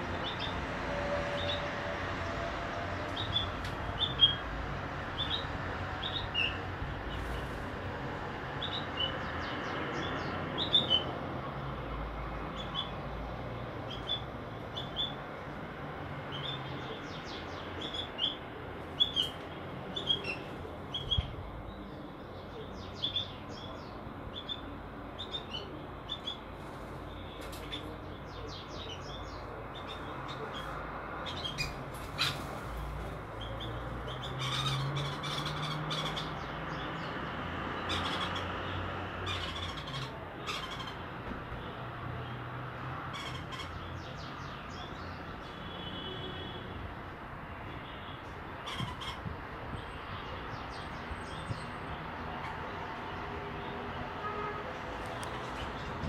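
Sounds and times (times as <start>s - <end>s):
sparrows chirping: 0.0s - 0.7s, 3.1s - 11.2s, 12.4s - 15.5s, 16.2s - 41.0s, 43.1s - 46.5s, 47.8s - 54.0s
steady background noise: 0.0s - 56.0s.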